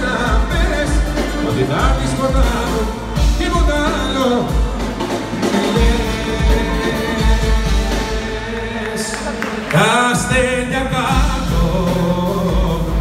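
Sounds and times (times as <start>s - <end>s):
man singing into a microphone: 0.0s - 4.9s, 5.5s - 13.0s
live pop band music: 0.0s - 13.0s.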